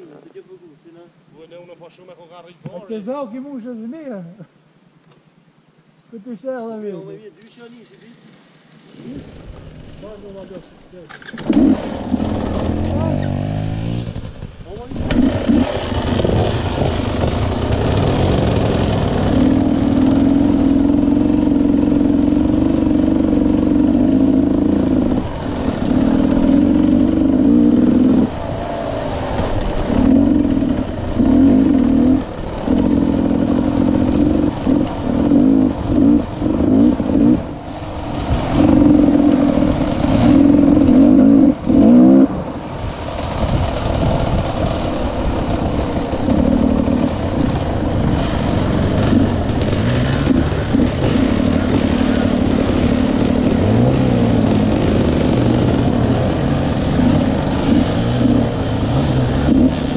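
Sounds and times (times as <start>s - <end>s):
dirt bike engine revving: 11.2s - 59.9s.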